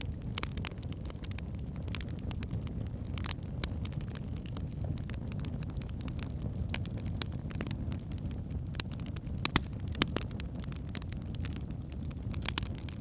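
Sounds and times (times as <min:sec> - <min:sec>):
low rumble of flames: 0:00.0 - 0:13.0
logs crackling and popping: 0:00.1 - 0:13.0.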